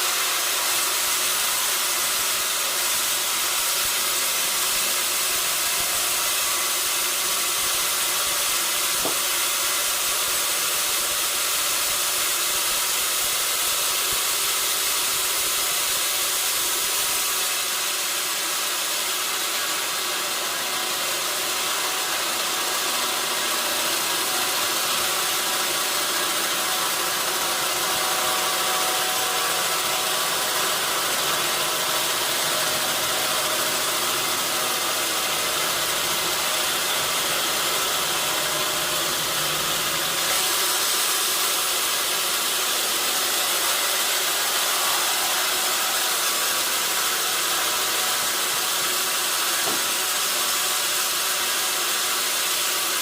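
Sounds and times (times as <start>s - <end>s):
sawmill saw running: 0.0s - 53.0s.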